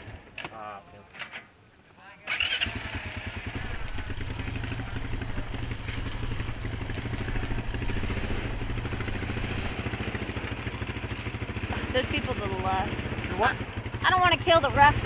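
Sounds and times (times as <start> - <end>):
quad bike engine running: 2.3 - 15.0.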